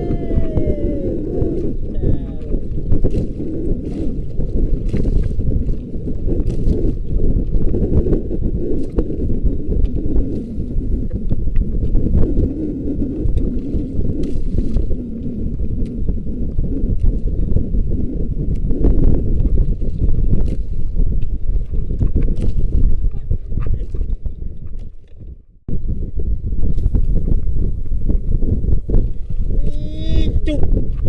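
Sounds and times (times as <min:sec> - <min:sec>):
wind and water rumble: 0:00.0 - 0:31.0
wind buffeting microphone: 0:00.0 - 0:31.0.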